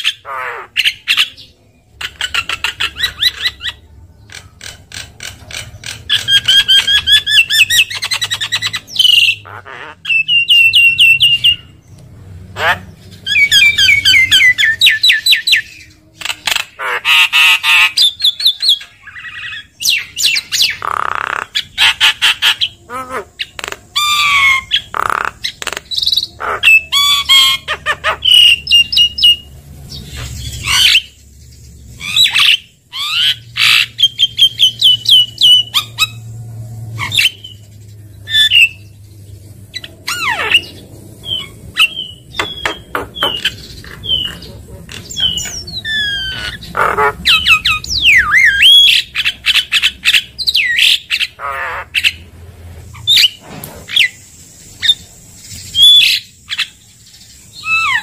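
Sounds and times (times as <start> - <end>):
bird squawking and whistling: 0.0 - 11.7, 12.6 - 29.4, 32.0 - 36.2, 37.0 - 37.6, 38.2 - 38.9, 39.7 - 52.2, 55.8 - 56.8, 57.6 - 58.0.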